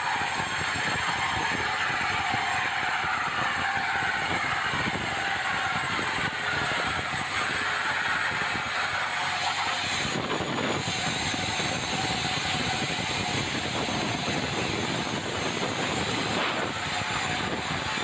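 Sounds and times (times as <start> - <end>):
sawmill machinery sawing timber: 0.0 - 18.0.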